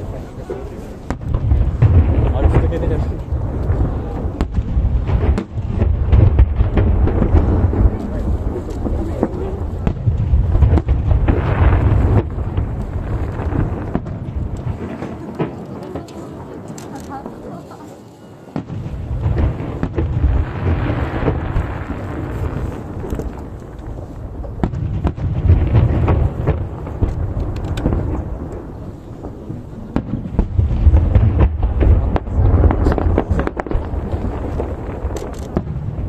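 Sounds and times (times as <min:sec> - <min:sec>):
firework booms: 0:00.0 - 0:17.6, 0:18.4 - 0:36.0
firework cracks and crackling: 0:00.0 - 0:36.0.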